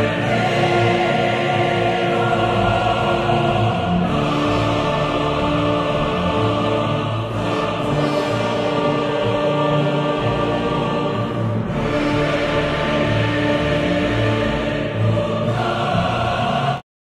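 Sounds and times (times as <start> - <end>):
choir singing held notes: 0.0 - 16.8.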